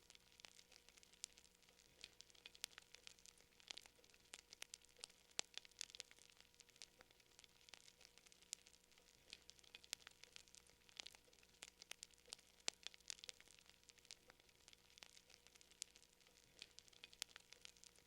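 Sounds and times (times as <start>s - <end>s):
faint steady hum: 0.0s - 18.0s
fire crackling and popping: 0.0s - 18.0s.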